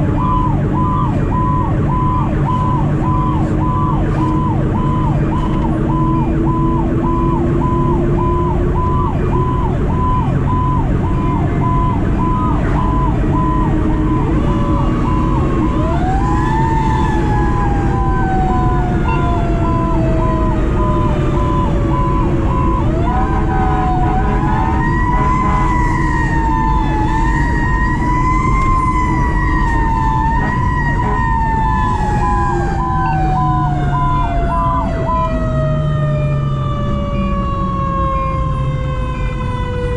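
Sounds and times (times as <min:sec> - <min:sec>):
diesel engine rumbling: 0:00.0 - 0:39.9
electronic siren tone: 0:00.0 - 0:39.9
mechanical siren wailing: 0:00.0 - 0:39.9.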